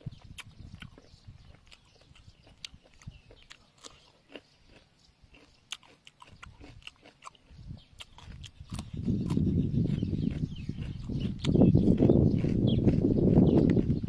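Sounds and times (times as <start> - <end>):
person crunching cucumber: 0.0 - 14.0.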